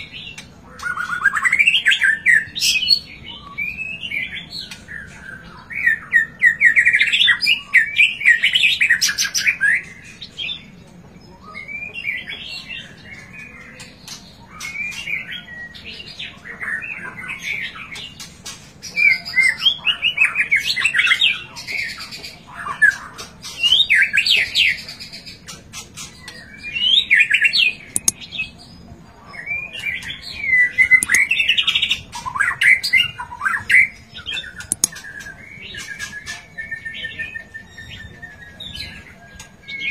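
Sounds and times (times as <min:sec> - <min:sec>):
bird singing whistles and trills: 0:00.0 - 0:10.7, 0:11.3 - 0:18.1, 0:18.8 - 0:28.6, 0:29.4 - 0:39.9.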